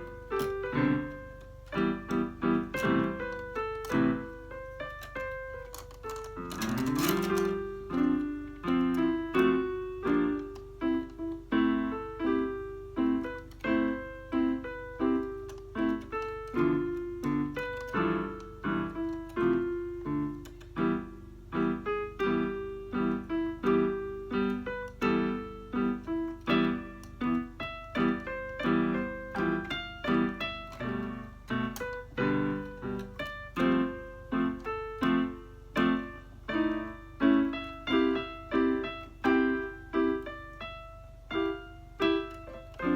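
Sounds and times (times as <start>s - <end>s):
electronic keyboard playing piano: 0.0s - 42.9s
faint mains hum: 0.0s - 42.9s.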